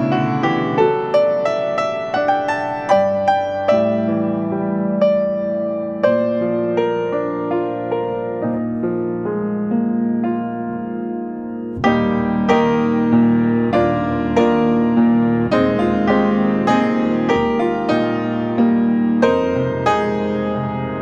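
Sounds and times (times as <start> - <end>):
slow gentle solo piano: 0.0 - 21.0.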